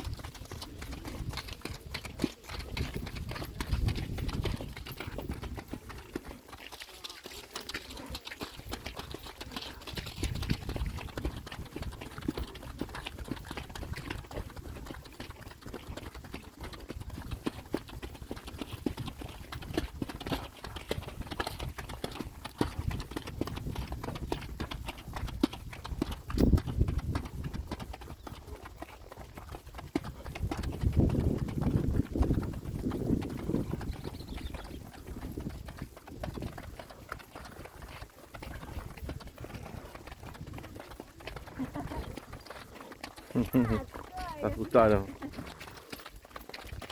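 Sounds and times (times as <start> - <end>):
horse hooves clip-clopping: 0.0 - 46.9.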